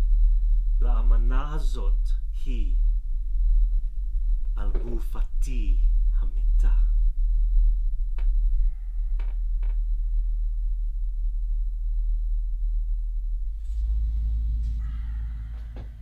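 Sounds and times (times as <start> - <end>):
deep low drone: 0.0 - 16.0.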